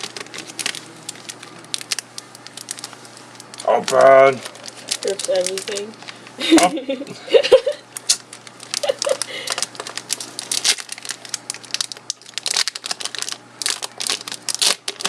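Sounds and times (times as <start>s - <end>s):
foil wrapper crinkling and tearing: 0.0s - 6.3s, 7.9s - 15.0s.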